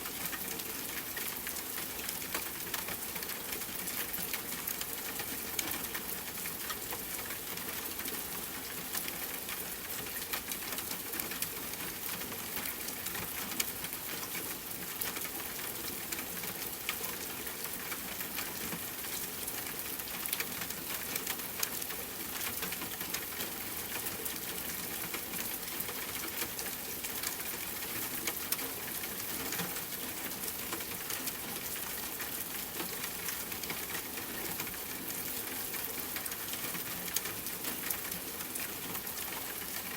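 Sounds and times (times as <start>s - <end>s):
rain on a tent: 0.0s - 39.9s.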